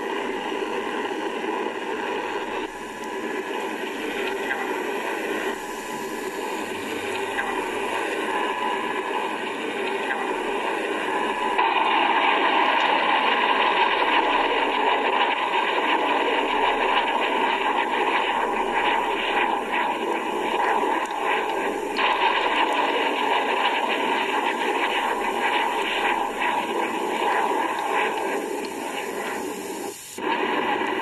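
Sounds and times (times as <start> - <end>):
battle soundtrack through small speakers: 0.0 - 31.0
crackles: 0.0 - 31.0.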